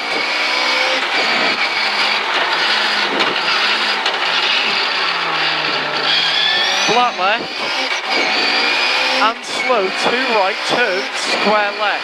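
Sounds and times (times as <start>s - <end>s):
car engine running: 0.0s - 12.0s
road and tyre noise: 0.0s - 12.0s.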